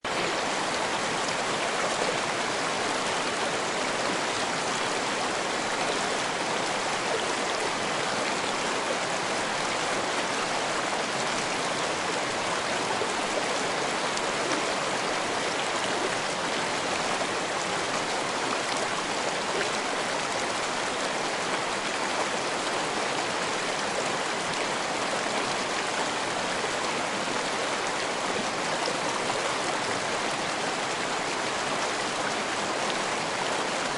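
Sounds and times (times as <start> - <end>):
stream running over stones: 0.1 - 33.9.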